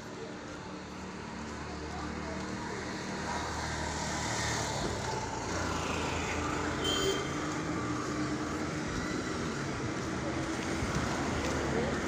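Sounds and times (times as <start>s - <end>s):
road traffic engines: 0.0s - 12.0s.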